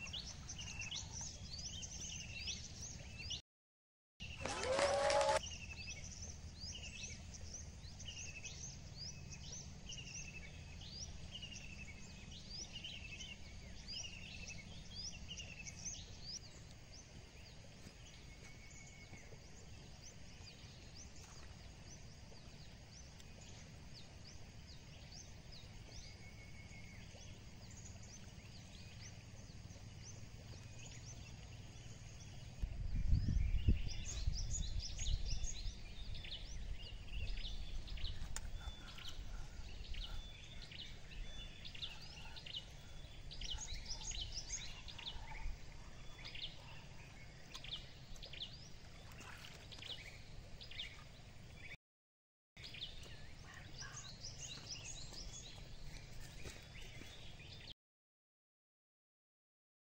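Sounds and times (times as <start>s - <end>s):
birds chirping: 4.2s - 51.8s, 52.6s - 57.7s.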